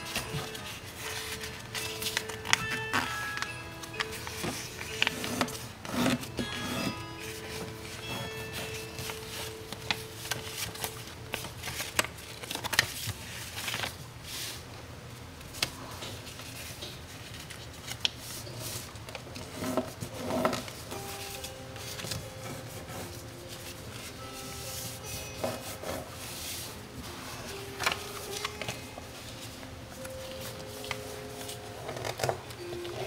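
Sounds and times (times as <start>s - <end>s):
paper rustling and crackling: 0.0s - 14.7s, 15.4s - 33.0s.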